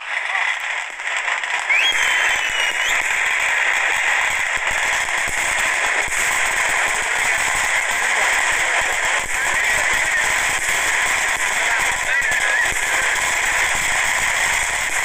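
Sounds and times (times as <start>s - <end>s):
firework whistle: 0.0s - 15.0s
fireworks crackling and popping: 0.0s - 15.0s.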